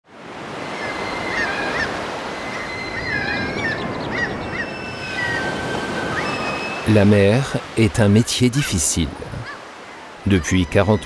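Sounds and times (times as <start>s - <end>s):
sea waves washing: 0.0s - 11.0s
seagulls calling: 0.4s - 11.0s.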